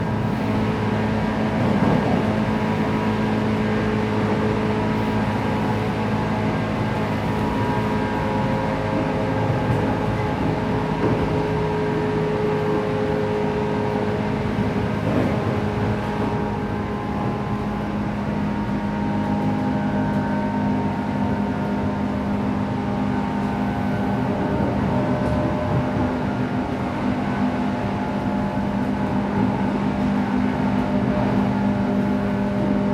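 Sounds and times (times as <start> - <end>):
train motors humming: 0.0 - 32.9
wheels rumbling on rail: 0.0 - 32.9.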